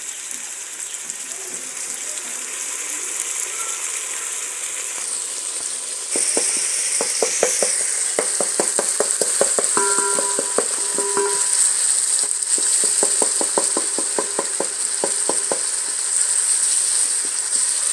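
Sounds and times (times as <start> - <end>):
oil popping and crackling: 0.0 - 17.9
vegetables sizzling in oil: 0.0 - 17.9.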